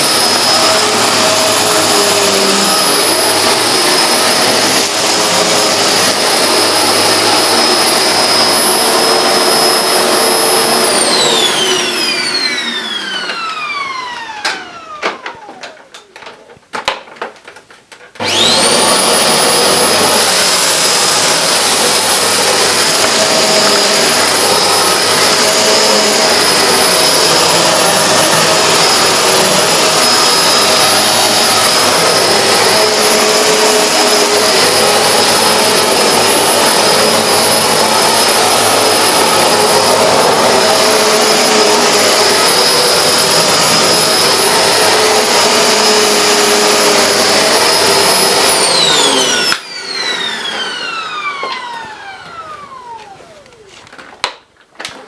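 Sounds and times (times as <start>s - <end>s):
vacuum cleaner motor whining: 0.0s - 55.0s.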